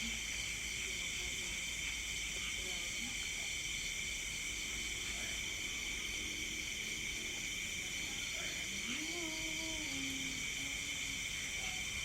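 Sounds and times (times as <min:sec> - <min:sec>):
crickets and night insects chirping: 0:00.0 - 0:12.0.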